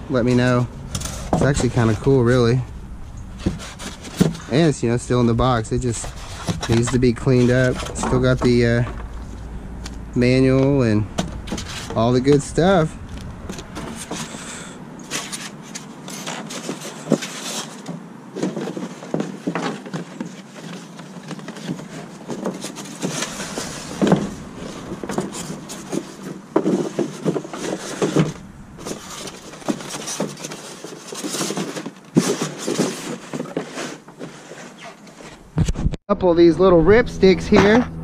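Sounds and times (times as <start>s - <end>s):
cardboard and paper rustling: 0.0s - 36.0s.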